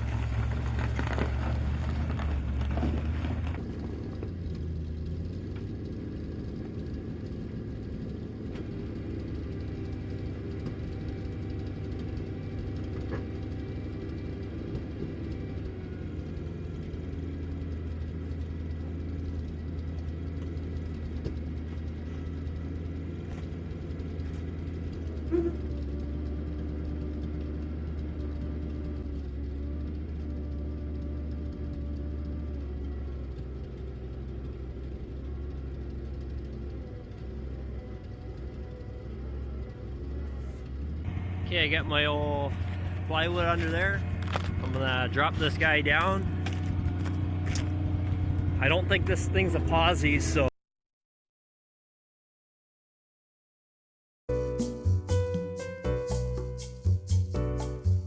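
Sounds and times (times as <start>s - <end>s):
truck engine running at low revs: 0.0s - 50.6s, 54.3s - 58.0s.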